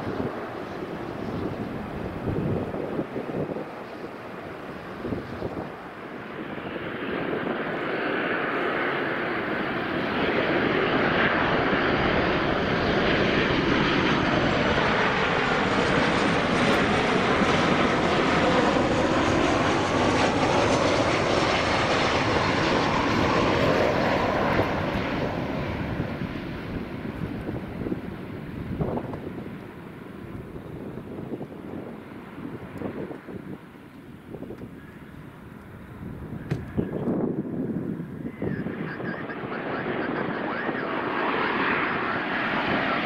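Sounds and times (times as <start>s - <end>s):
jet roar: 0.0s - 43.0s.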